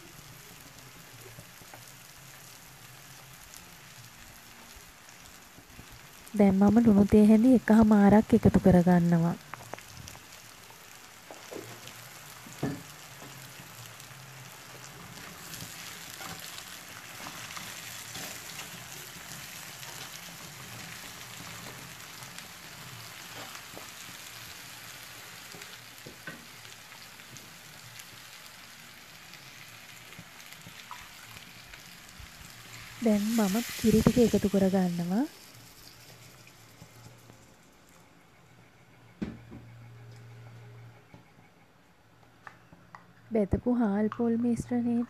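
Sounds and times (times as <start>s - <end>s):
food sizzling in a clay pot: 0.0s - 38.6s.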